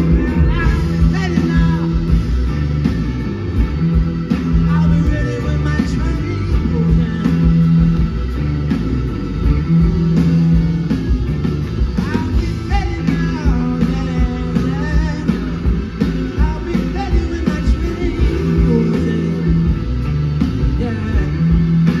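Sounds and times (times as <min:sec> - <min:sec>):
bass guitar: 0:00.0 - 0:22.0
drums: 0:00.0 - 0:22.0
electric guitars: 0:00.0 - 0:22.0.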